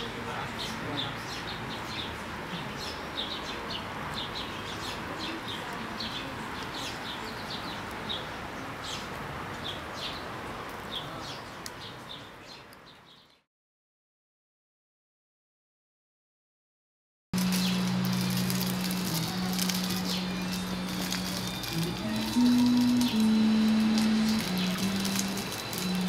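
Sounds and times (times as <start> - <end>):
outdoor ambience: 0.0 - 13.4, 17.4 - 26.0
small birds chirping: 0.0 - 13.5, 17.4 - 26.0.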